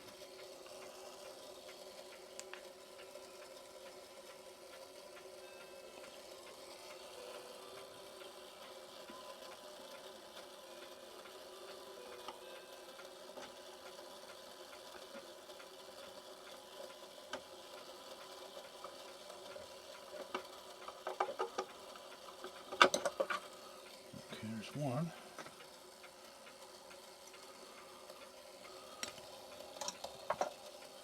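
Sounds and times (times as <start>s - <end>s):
clock mechanism whirring: 0.0s - 31.0s.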